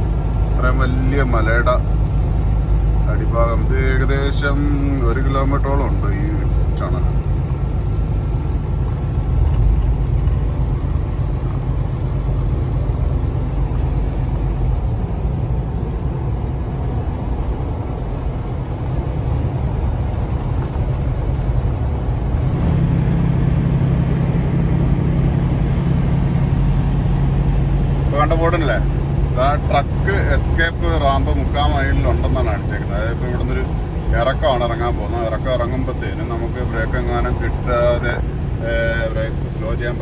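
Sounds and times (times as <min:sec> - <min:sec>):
deep hum: 0:00.0 - 0:40.0
truck engine and road drone: 0:00.0 - 0:40.0.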